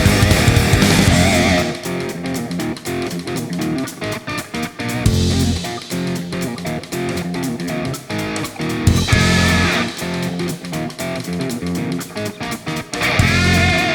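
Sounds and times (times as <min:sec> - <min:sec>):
electric guitar rock music: 0:00.0 - 0:13.9.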